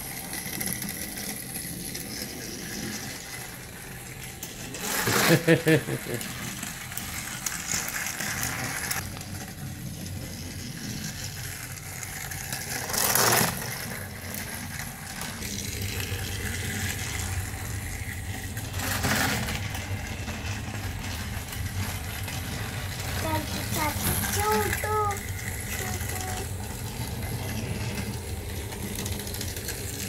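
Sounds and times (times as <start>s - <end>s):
toy train motor running: 0.0s - 30.0s.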